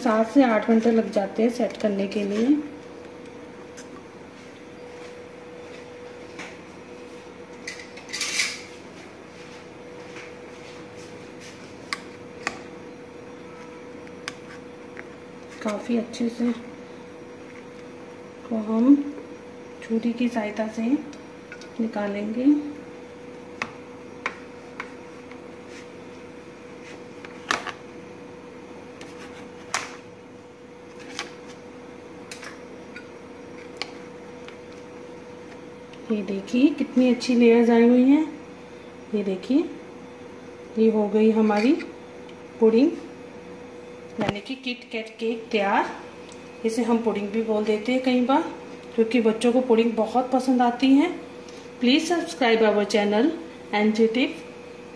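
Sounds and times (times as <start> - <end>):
faint hum: 0.0 - 54.9.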